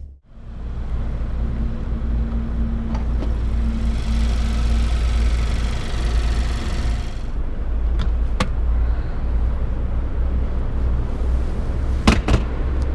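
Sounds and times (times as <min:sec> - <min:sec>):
car engine low rumble: 0:00.0 - 0:12.9.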